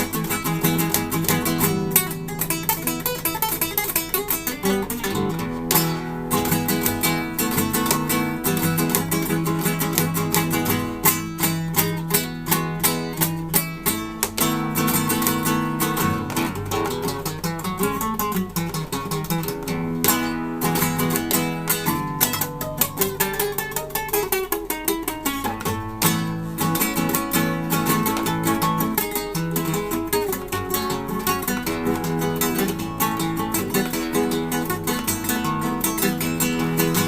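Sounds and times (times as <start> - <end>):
classical guitar playing: 0.0 - 37.0.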